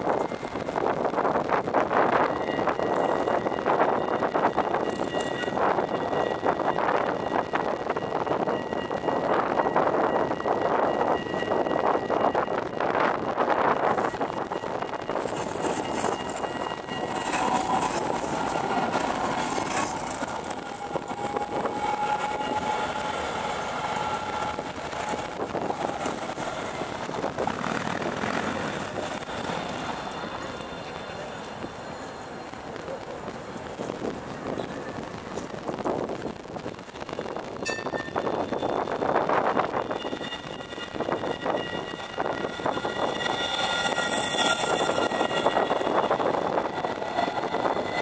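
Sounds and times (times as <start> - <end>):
faint high steady tones: 0.0 - 33.7, 36.9 - 48.0
tram wheels rumbling on rails: 0.0 - 48.0
tram whine: 0.0 - 48.0.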